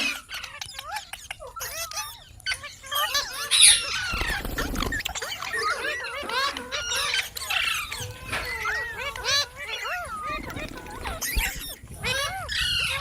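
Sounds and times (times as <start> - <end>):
parrots squawking: 1.6 - 13.0.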